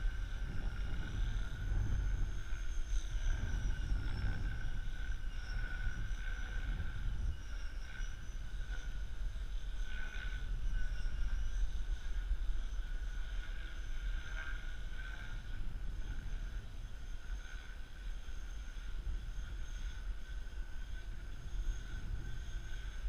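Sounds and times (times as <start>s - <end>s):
small aircraft whine: 0.0s - 23.0s
wind rumble on microphone: 0.0s - 23.0s.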